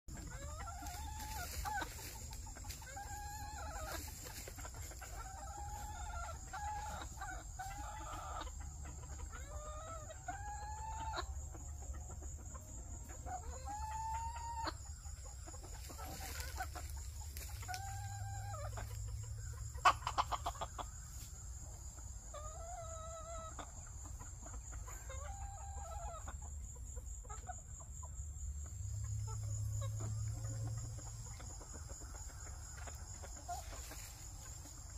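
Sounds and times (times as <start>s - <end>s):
chickens clucking: 0.1s - 34.9s.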